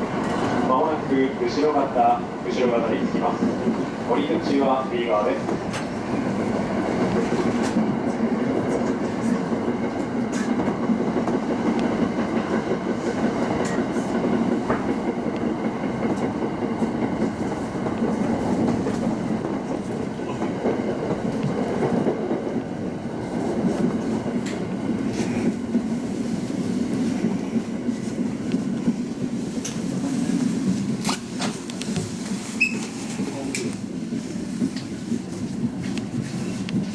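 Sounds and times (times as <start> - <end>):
train running rumble: 0.0 - 36.9.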